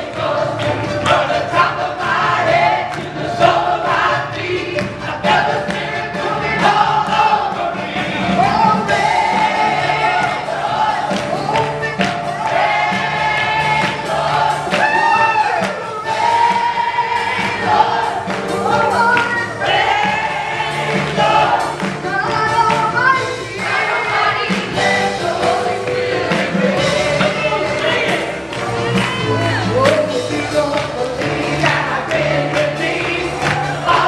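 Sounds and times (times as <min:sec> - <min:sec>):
congregation singing: 0:00.0 - 0:34.0
lead singers on microphones: 0:00.0 - 0:34.0.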